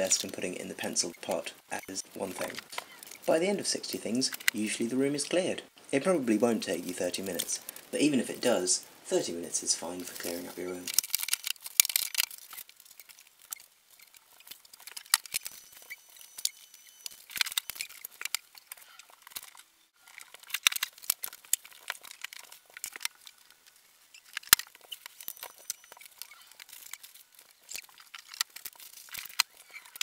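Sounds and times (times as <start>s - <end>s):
small objects clattering: 0.0s - 5.4s, 6.0s - 30.0s.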